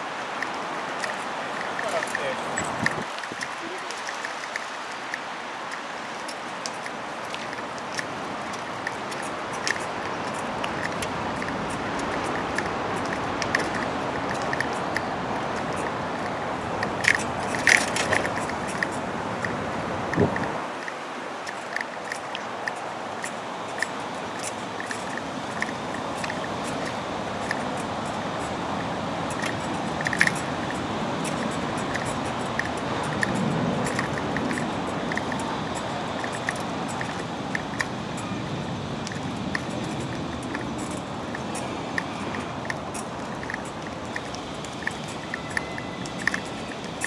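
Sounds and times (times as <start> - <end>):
distant traffic hiss: 0.0 - 47.0
footsteps on a paved path: 0.0 - 47.0.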